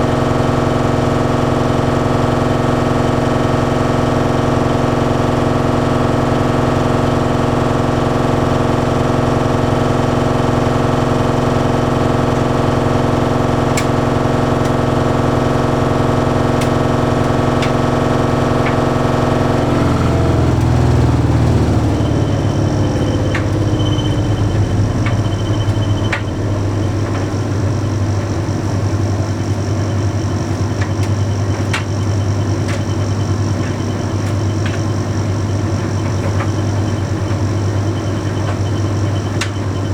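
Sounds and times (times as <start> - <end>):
tumble dryer humming: 0.0 - 39.9.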